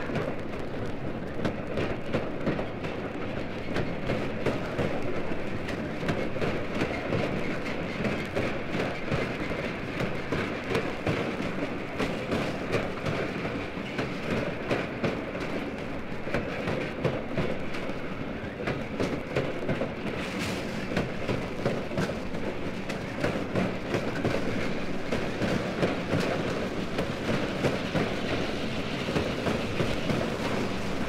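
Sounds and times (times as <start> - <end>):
steam locomotive rumbling: 0.0 - 31.0.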